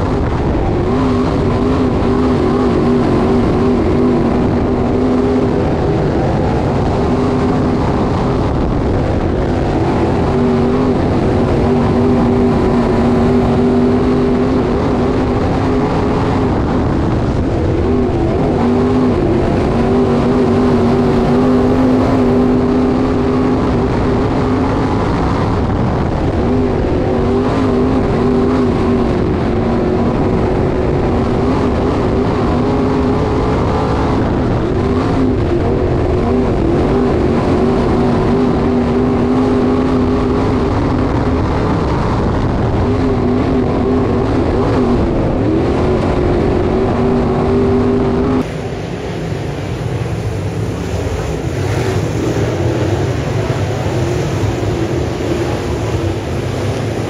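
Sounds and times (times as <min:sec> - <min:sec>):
race car engines running hard: 0:00.0 - 0:57.0.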